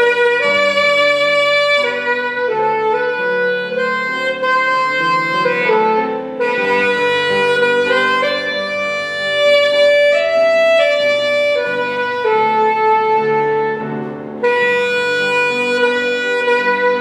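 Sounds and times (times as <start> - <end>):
low musical accompaniment: 0.0 - 17.0
solo melody of long held notes: 0.0 - 17.0.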